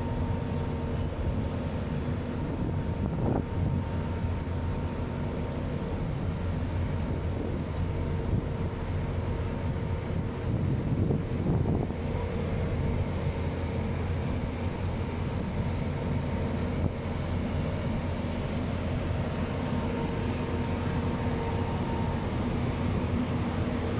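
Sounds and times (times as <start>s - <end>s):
aircraft engine droning: 0.0s - 23.9s.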